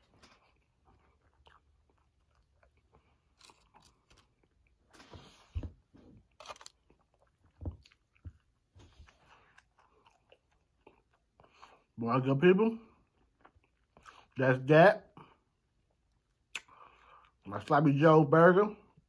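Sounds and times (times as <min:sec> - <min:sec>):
person chewing food: 0:00.0 - 0:12.0, 0:12.8 - 0:14.4, 0:15.4 - 0:17.5.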